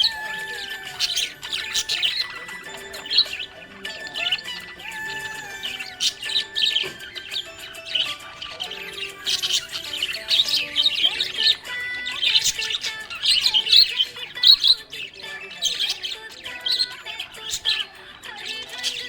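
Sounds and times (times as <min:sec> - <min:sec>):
background music: 0:00.0 - 0:19.0
budgerigar squawks: 0:00.0 - 0:19.0
budgerigars chirping and chattering: 0:00.0 - 0:19.0.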